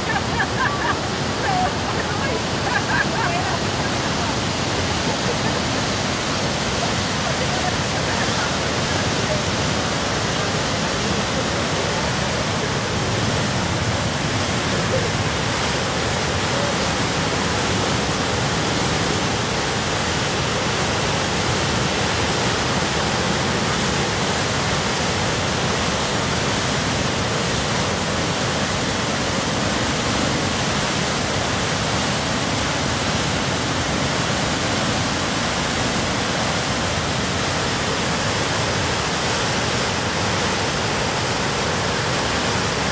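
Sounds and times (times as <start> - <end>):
river rushing in flood: 0.0 - 42.9.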